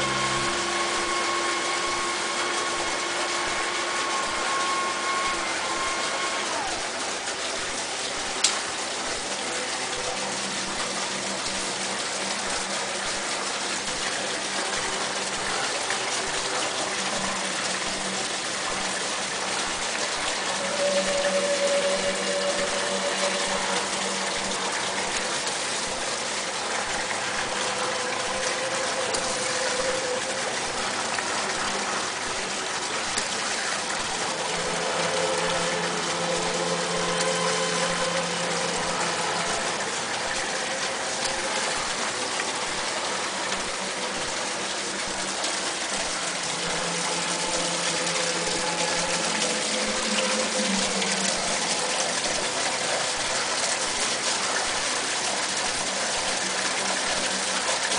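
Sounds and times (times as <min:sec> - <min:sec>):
faint hums: 0:00.0 - 0:08.3, 0:13.6 - 0:53.7
running water rushing: 0:00.0 - 0:57.9.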